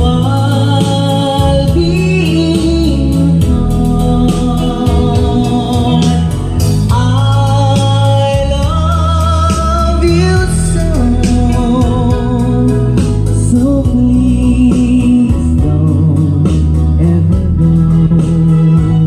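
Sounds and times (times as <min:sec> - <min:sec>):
loud recorded song with bass: 0:00.0 - 0:19.0.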